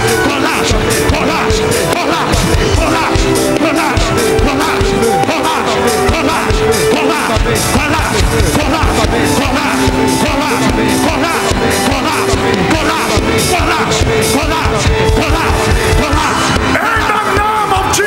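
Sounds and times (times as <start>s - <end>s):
congregation praying and singing: 0.0s - 18.0s
live church praise music: 0.0s - 18.0s.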